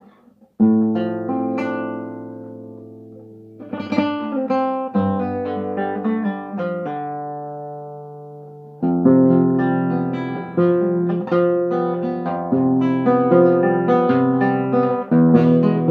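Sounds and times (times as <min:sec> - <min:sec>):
acoustic guitar playing: 0:00.0 - 0:15.9.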